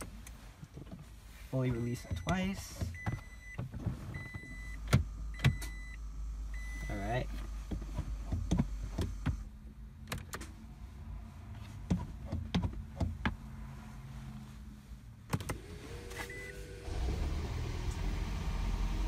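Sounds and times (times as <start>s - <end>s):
car engine starting and running: 0.0s - 19.0s.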